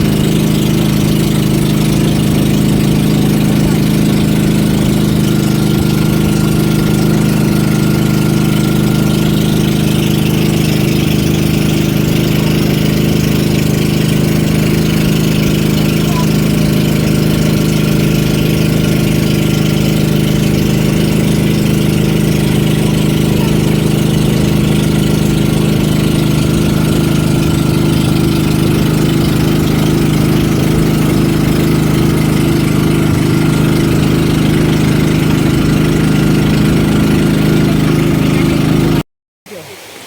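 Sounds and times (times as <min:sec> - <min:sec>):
vehicle engine droning steadily: 0:00.0 - 0:39.0.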